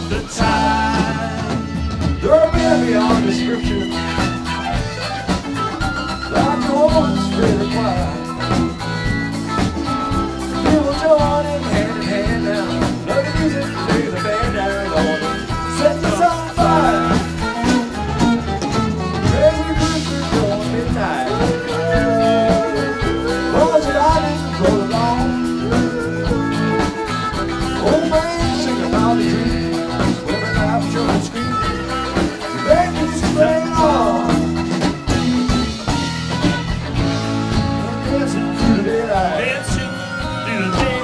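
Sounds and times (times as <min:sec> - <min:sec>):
bass: 0:00.0 - 0:41.0
drums: 0:00.0 - 0:41.0
electric guitars: 0:00.0 - 0:41.0
keyboard: 0:00.0 - 0:41.0.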